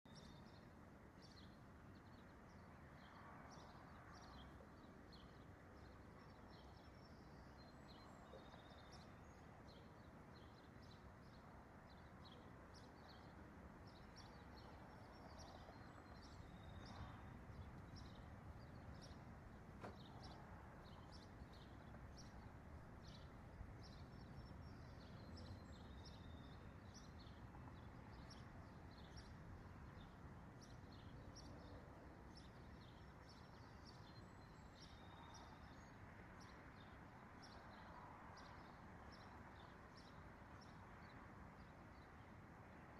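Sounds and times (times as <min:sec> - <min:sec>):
low background hiss: 0:00.1 - 0:42.9.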